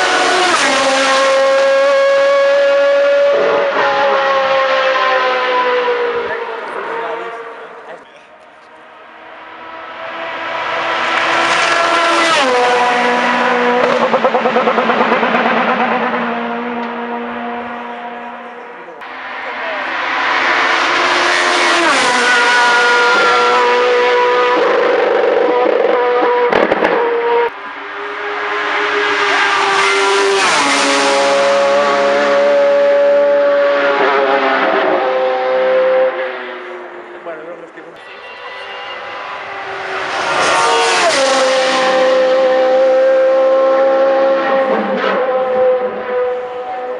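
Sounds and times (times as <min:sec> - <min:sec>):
racing car engine at high revs: 0:00.0 - 0:46.9.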